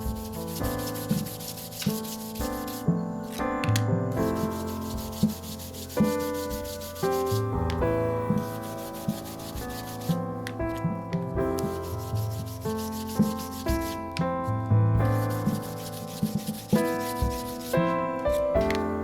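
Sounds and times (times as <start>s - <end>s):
sandpaper rubbing on wood: 0.0s - 3.5s, 4.2s - 10.8s, 11.5s - 14.1s, 15.0s - 18.7s
sustained keyboard music: 0.0s - 19.0s.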